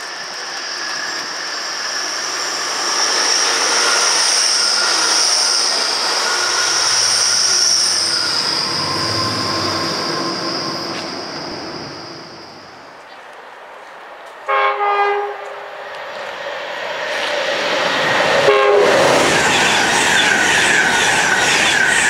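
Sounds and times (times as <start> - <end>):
train wheels squealing: 0.0 - 13.1, 17.0 - 22.0
rail rumble: 0.0 - 22.0.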